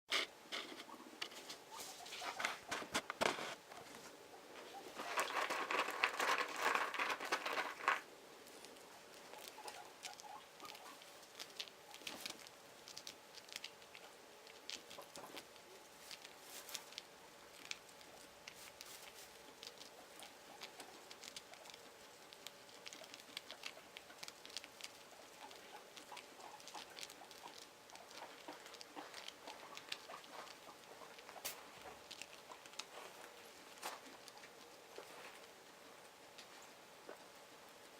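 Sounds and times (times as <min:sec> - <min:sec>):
guinea pigs pattering and rustling: 0:00.1 - 0:37.9.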